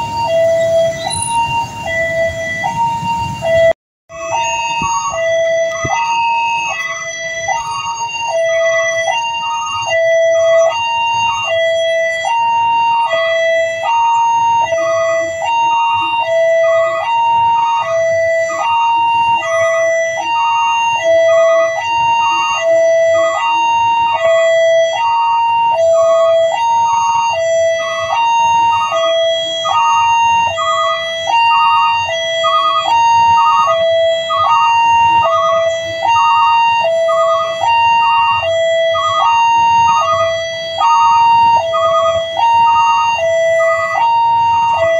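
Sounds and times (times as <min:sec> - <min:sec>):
level crossing alarm chimes: 0:00.0 - 0:44.9.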